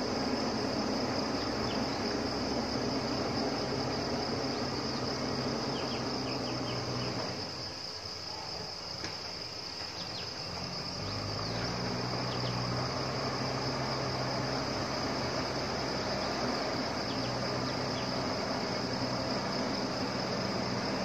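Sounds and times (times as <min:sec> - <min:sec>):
diesel engine hum: 0:00.0 - 0:21.0
high insect drone: 0:00.0 - 0:21.0.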